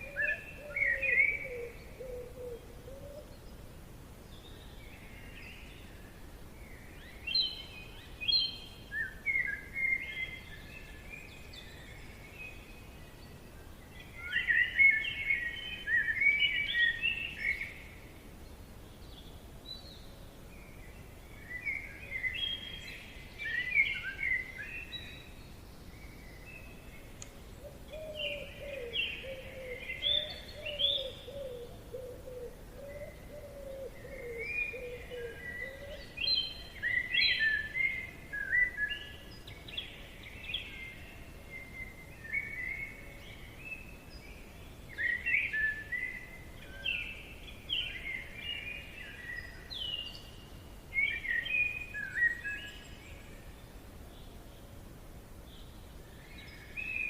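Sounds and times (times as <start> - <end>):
faint background hiss: 0.0 - 57.0
songbirds chirping: 0.0 - 57.0.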